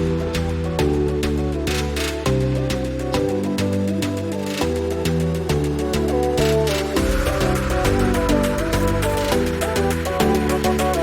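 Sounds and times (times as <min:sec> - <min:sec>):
electronic background music: 0:00.0 - 0:11.0.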